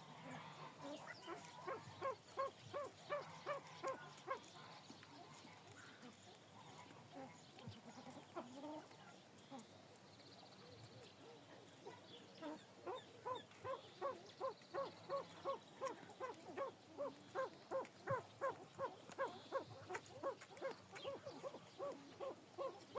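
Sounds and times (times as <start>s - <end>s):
pheasants clucking: 0.0s - 9.7s, 10.6s - 22.9s.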